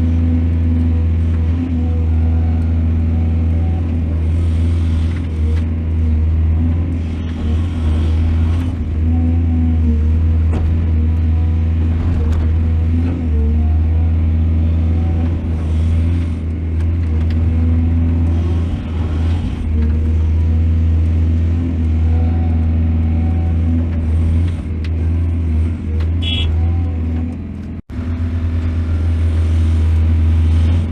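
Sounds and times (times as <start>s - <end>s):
diesel excavator engine droning: 0.0s - 30.9s.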